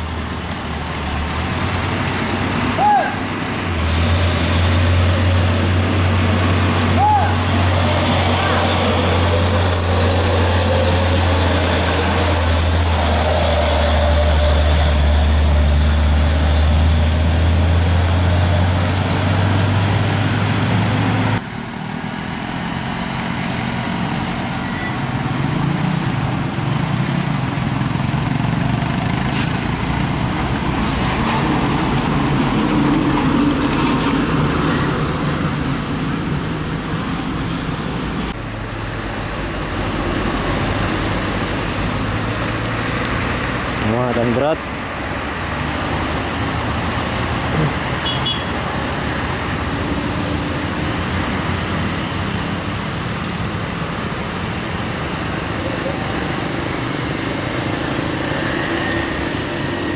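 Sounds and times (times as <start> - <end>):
diesel truck engine droning: 0.0 - 59.9
trucks passing on road: 0.0 - 59.9.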